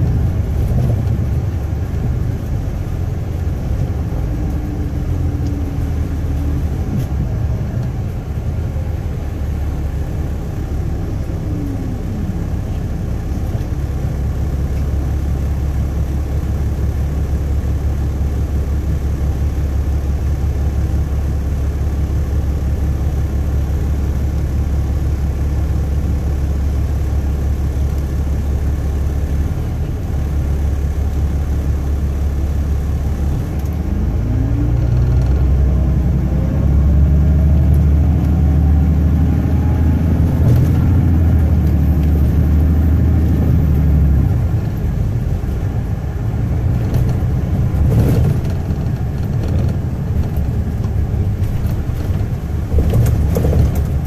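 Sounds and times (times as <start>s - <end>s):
bus accelerating: 0.0s - 54.0s
diesel engine idling: 0.0s - 54.0s.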